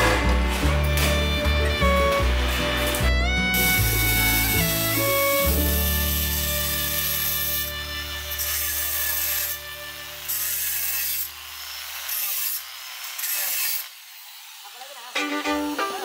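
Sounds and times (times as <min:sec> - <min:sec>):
stone cutter grinding granite: 0:02.4 - 0:16.0.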